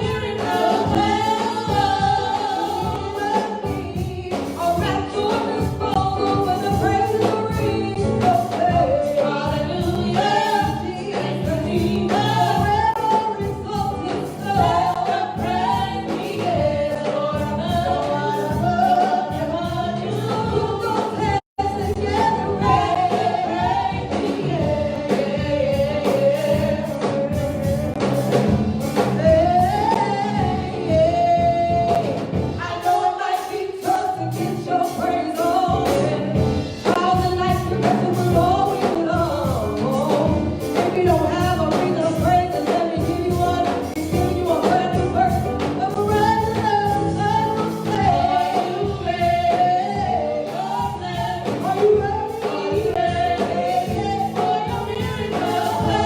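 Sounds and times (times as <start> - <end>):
choir singing over a beat: 0.0 - 56.0.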